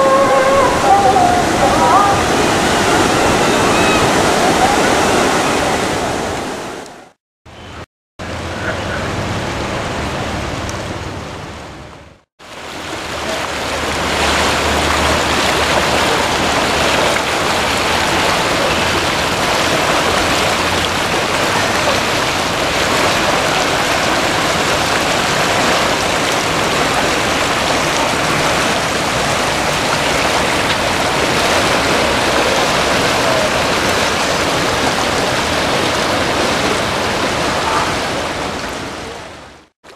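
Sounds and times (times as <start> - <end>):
river water rushing: 0.0 - 7.2, 8.2 - 39.9.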